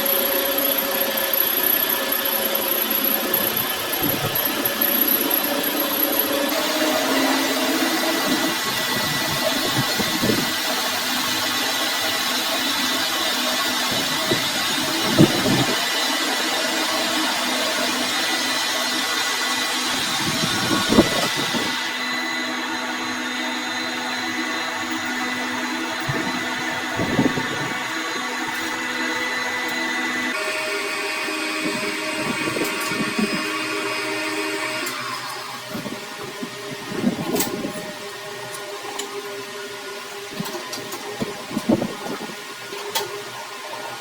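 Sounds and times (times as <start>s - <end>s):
workshop machine humming: 0.0s - 44.0s.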